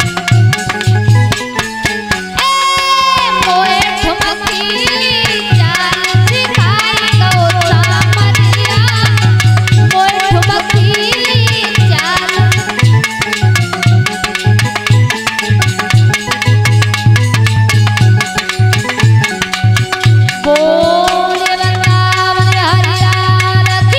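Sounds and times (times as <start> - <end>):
ornamented sliding melody: 0.0 - 23.6
hand drums fast rhythm: 0.0 - 23.9.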